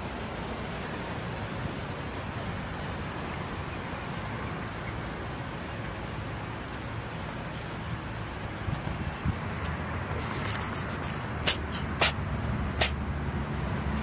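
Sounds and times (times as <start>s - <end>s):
outdoor background hiss and rumble: 0.0s - 14.0s.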